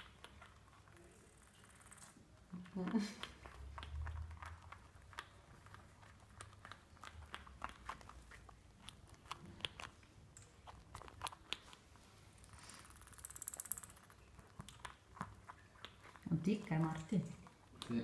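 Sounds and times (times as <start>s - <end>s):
squirrel gnawing on plastic: 0.0s - 18.0s.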